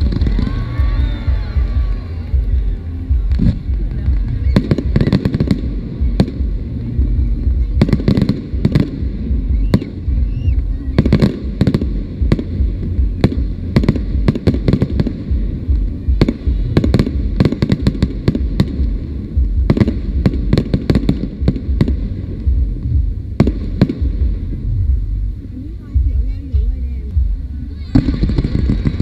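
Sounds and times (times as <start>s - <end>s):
fireworks bangs and crackles: 0.0s - 29.0s
low rumble: 0.0s - 29.0s.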